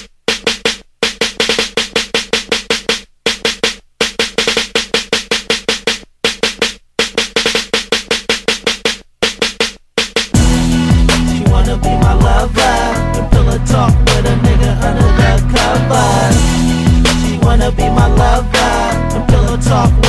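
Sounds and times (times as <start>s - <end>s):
drum machine rapid hits: 0.0s - 20.0s
hip hop beat with deep bass: 0.0s - 20.0s.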